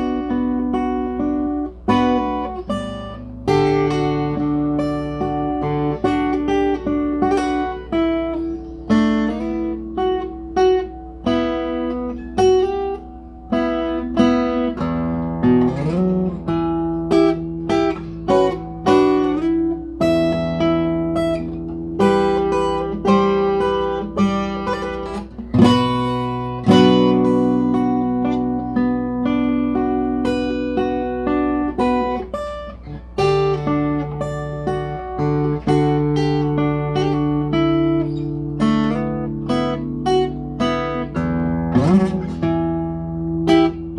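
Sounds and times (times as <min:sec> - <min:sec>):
solo guitar playing: 0:00.0 - 0:43.9.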